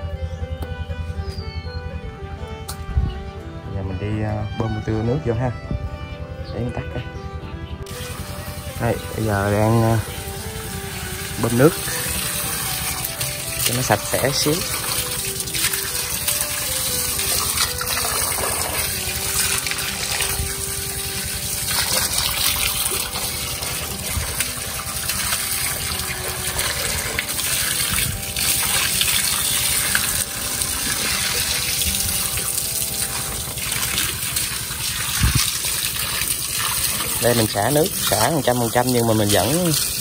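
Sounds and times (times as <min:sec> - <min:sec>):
water gushing into a tank: 0:07.9 - 0:40.0.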